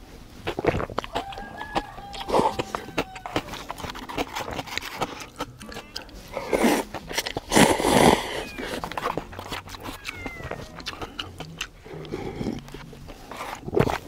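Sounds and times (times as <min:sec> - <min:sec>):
noodles being slurped: 0:00.0 - 0:14.0
wet mouth clicks: 0:00.4 - 0:14.0.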